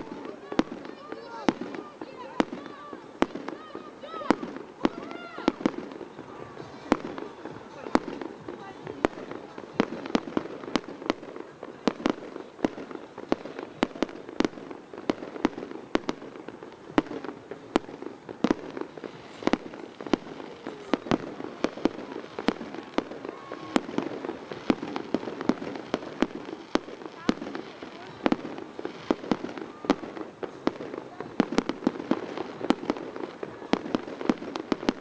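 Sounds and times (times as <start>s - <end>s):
firework bangs: 0.0s - 35.0s
fireworks crackling: 0.0s - 35.0s.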